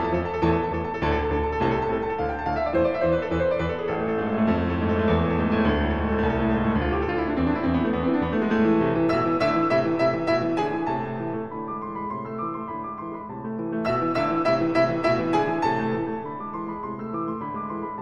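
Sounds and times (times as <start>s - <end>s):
background piano music: 0.0s - 18.0s.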